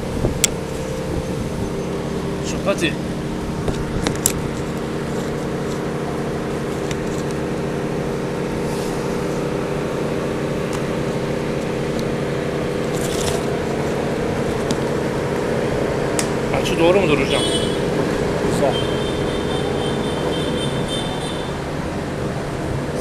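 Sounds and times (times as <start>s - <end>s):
steady motor drone: 0.0s - 23.0s.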